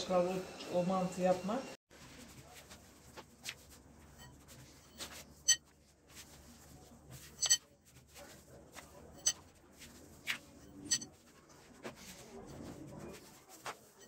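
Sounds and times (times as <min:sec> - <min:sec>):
rolling pin rustling on dough: 0:01.9 - 0:14.0.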